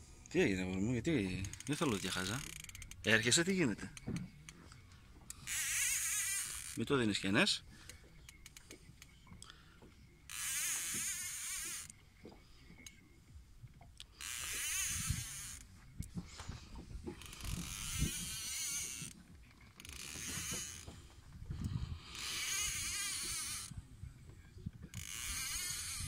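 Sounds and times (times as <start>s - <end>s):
fishing reel whirring: 1.2s - 4.6s, 5.2s - 13.4s, 14.0s - 23.8s, 24.8s - 26.0s.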